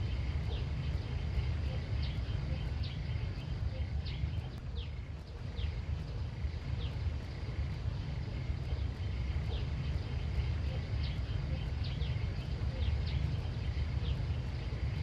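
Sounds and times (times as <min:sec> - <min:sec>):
faint high hum: 0:00.0 - 0:15.0
steady low rumble: 0:00.0 - 0:15.0.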